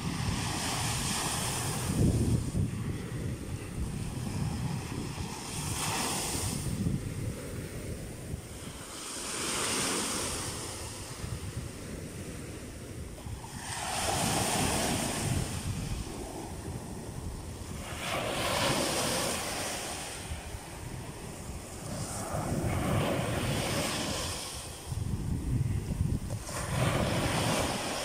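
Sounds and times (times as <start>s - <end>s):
waves breaking on a beach: 0.0s - 28.0s.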